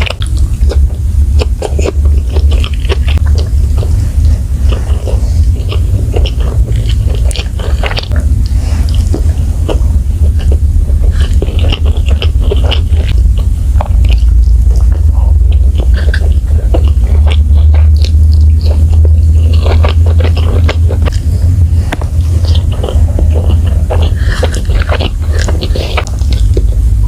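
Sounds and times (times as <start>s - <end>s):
chewing and biting: 0.0s - 27.0s
steady low hum: 0.0s - 27.0s.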